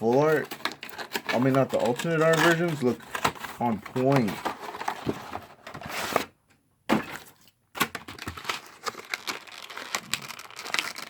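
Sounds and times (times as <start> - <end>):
packaging rustling and scraping: 0.0 - 11.0.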